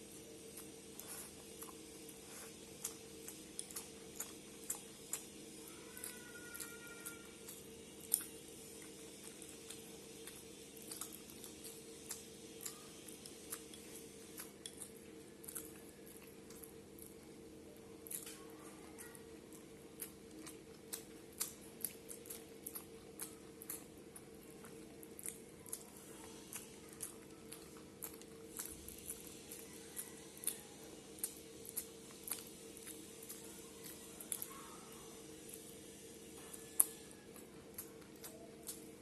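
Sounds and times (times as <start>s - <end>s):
person chewing food: 0.0s - 39.0s
steady low hum: 0.0s - 39.0s.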